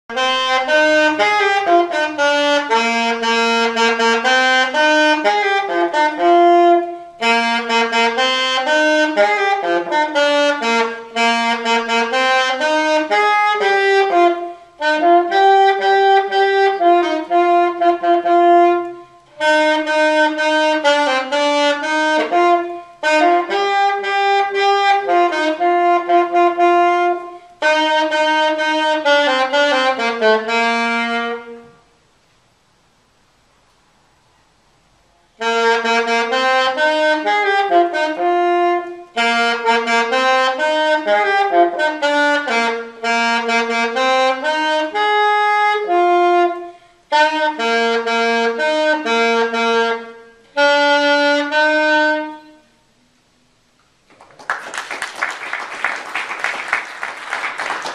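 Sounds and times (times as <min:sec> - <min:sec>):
alto saxophone melody: 0:00.1 - 0:32.1, 0:35.2 - 0:57.9.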